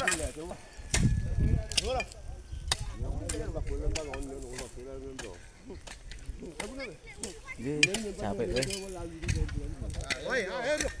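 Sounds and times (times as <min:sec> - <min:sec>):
people talking: 0:00.0 - 0:11.0.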